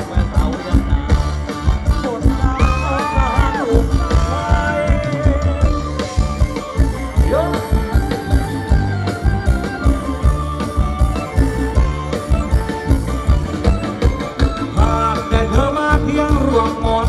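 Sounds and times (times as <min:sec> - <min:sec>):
gliding melody line: 0:00.0 - 0:17.0
live band playing dance music: 0:00.0 - 0:17.0
steady drum beat: 0:00.0 - 0:17.0.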